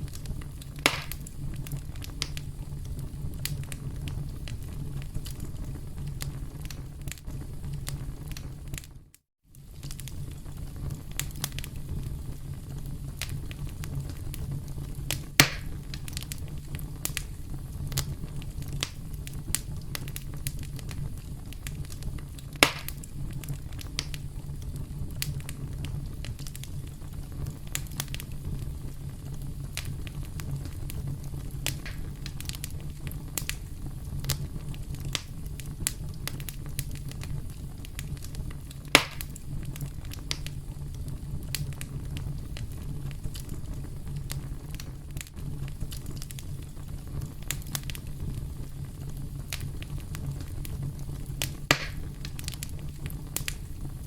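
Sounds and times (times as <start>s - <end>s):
campfire crackling: 0.0s - 54.0s
sharp fire pops: 0.0s - 54.0s.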